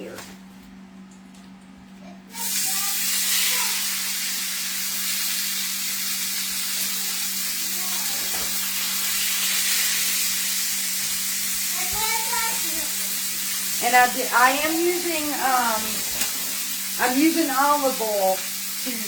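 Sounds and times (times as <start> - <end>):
meat sizzling in a pan: 2.3 - 19.0.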